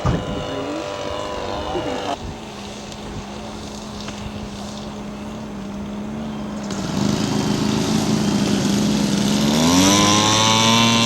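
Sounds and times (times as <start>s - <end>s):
model plane engine in flight: 0.0s - 11.0s.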